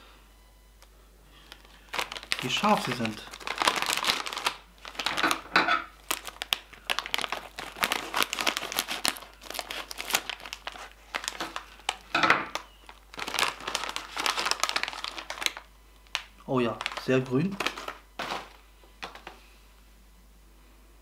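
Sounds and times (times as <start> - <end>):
plastic chip bag crinkling: 1.4 - 19.4.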